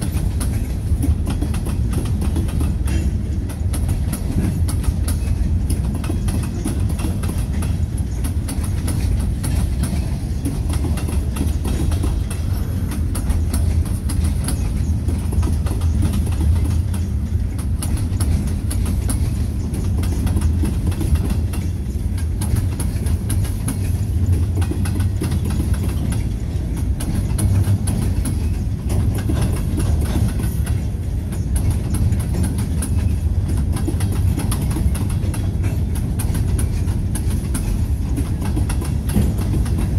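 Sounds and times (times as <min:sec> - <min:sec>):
train wheels rumbling on rail: 0:00.0 - 0:39.9
wheels clacking over rail joints: 0:00.0 - 0:39.9.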